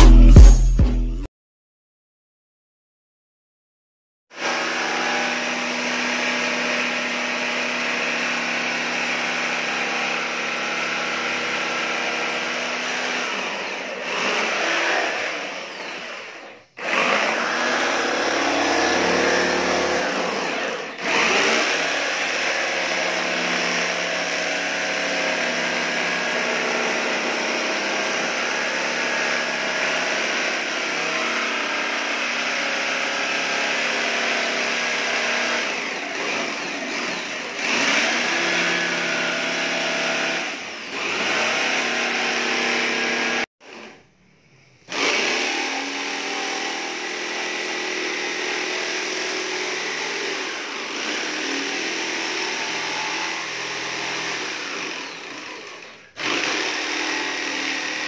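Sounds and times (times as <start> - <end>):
power tool running on wood: 4.4 - 43.9, 44.9 - 58.0.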